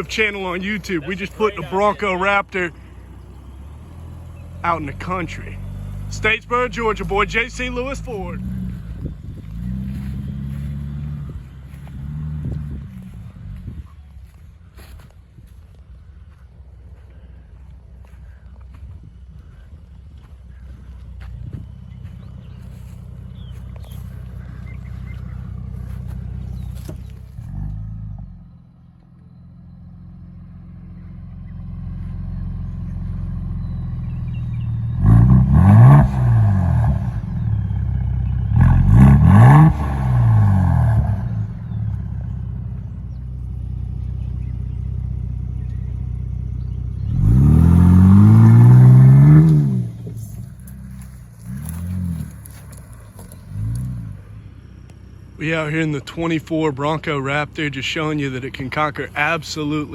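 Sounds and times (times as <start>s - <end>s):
car engine running and revving: 0.0s - 59.9s.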